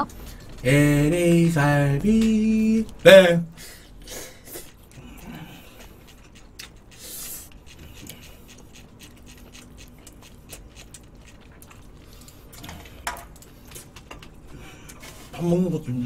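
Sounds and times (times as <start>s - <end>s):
person chewing: 0.2s - 15.3s.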